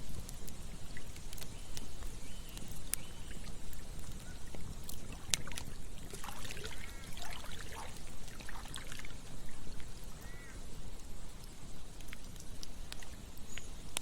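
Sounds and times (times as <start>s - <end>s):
campfire crackling and popping: 0.0s - 14.0s
trickling stream: 0.0s - 14.0s.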